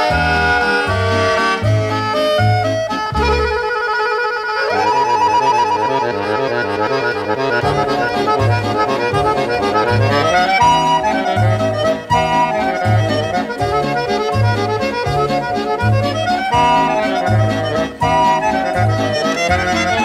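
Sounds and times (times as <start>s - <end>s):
instrumental background music: 0.0s - 20.0s.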